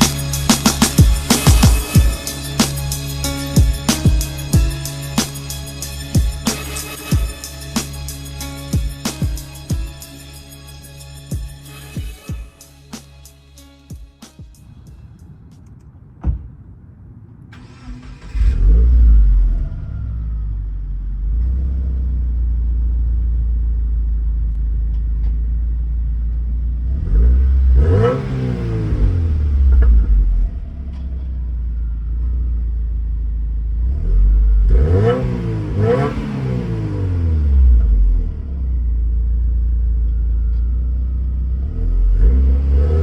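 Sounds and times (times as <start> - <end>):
car engine starting and revving: 0.0 - 12.0, 17.4 - 43.0.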